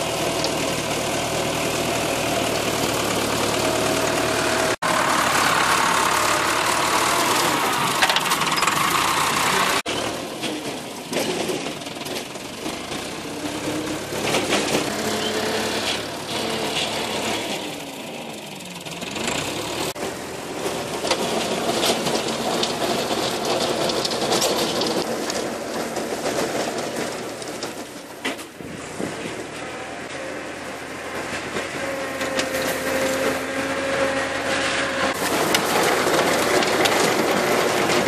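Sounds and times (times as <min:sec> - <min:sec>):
mulcher cutting grass: 0:00.0 - 0:38.0
tractor diesel engine under load: 0:00.0 - 0:38.0.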